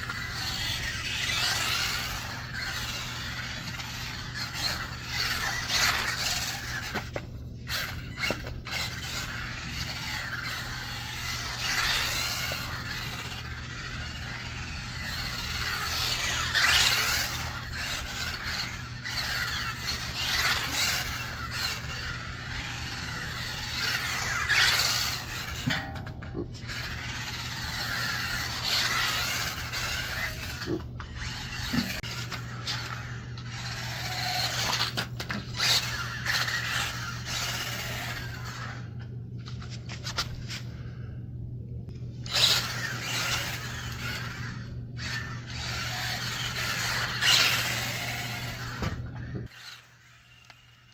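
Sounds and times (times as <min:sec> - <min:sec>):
tyres squealing: 0:00.0 - 0:38.9, 0:42.2 - 0:50.9
rc truck motor whining: 0:00.0 - 0:41.2, 0:41.9 - 0:50.9.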